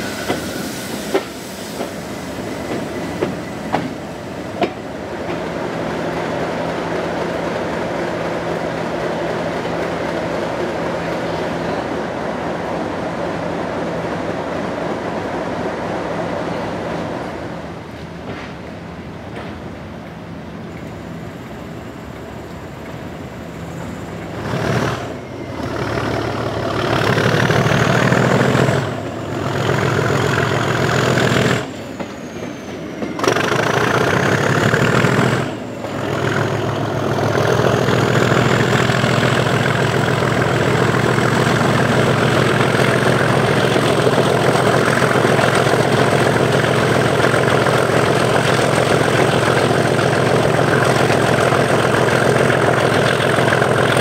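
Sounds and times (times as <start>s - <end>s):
diesel locomotive engine working hard: 0.0s - 54.0s.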